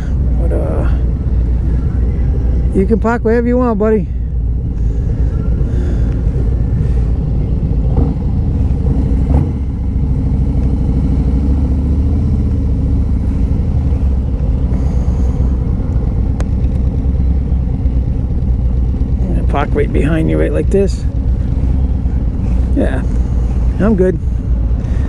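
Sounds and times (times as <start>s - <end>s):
motorcycle engines idling: 0.0s - 25.0s.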